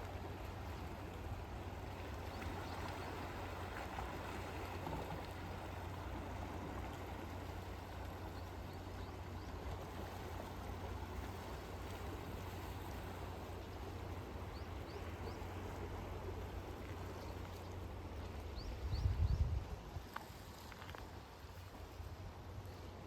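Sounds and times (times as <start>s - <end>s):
sea water washing on shore: 0.0s - 19.0s.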